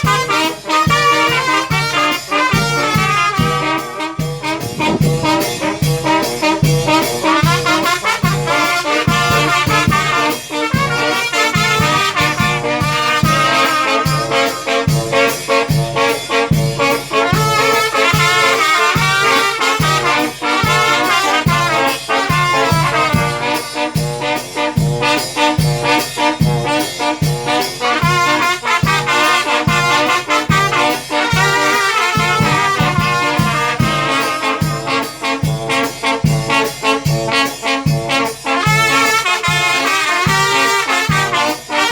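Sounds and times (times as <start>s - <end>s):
brass band playing: 0.0s - 41.9s.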